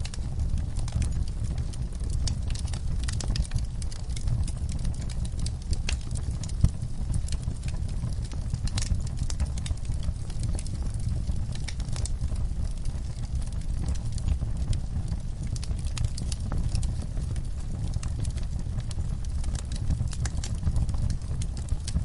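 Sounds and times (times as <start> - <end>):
fire flames rumbling: 0.0 - 22.0
logs crackling and popping: 0.0 - 22.0.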